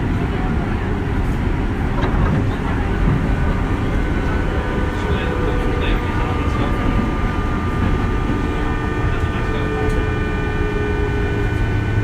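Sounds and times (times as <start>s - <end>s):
electrical tones from train motors: 0.0s - 12.0s
train wheels rumbling on rail: 0.0s - 12.0s.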